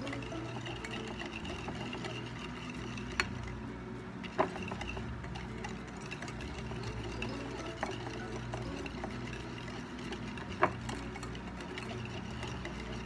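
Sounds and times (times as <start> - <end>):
whisk scraping ceramic plate: 0.0 - 3.6, 4.2 - 13.0.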